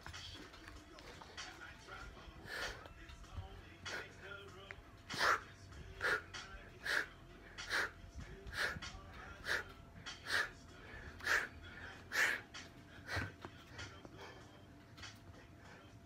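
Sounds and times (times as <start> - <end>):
person breathing heavily: 1.0 - 4.4, 5.1 - 14.7.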